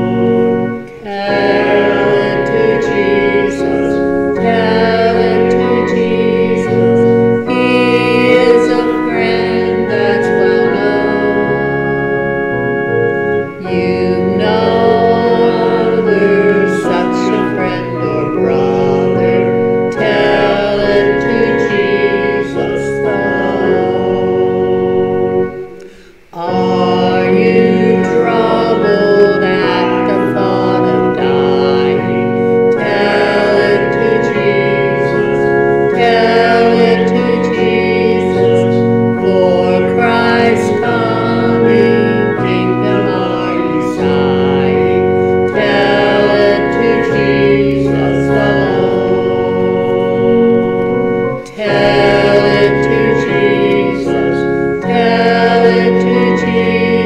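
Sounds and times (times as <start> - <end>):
organ accompaniment: 0.0 - 57.0
woman singing a hymn: 0.0 - 57.0.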